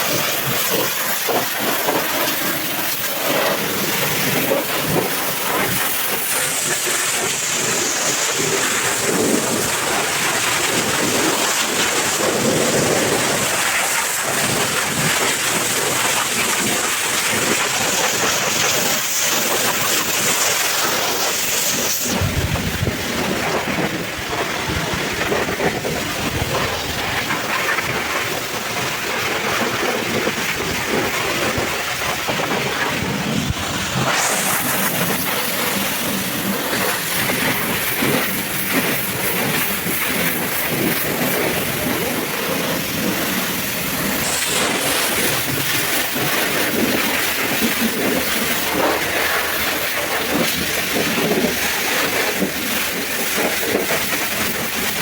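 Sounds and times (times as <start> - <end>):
pressure washer spraying water: 0.0 - 55.0.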